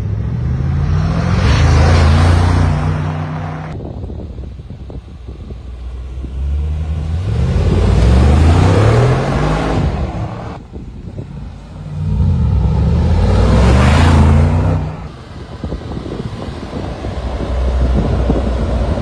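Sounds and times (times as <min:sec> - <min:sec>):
car engine revving: 0:00.0 - 0:03.8, 0:05.4 - 0:19.0.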